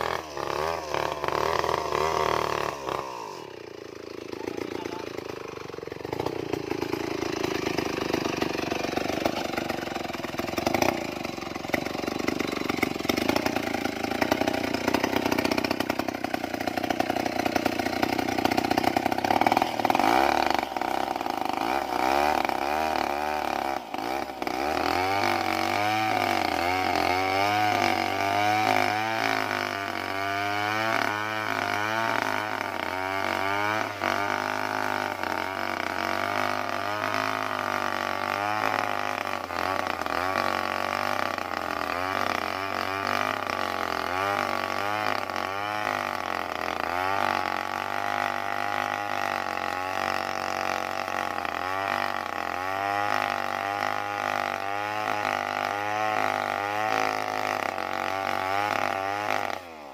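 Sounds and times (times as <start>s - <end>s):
chainsaw ripping a log: 0.0s - 59.9s.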